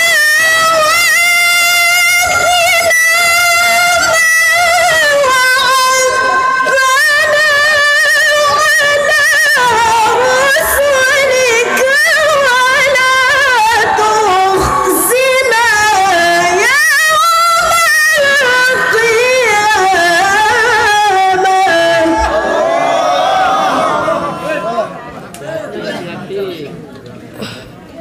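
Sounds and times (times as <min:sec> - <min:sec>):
woman reciting melodically: 0:00.0 - 0:22.6.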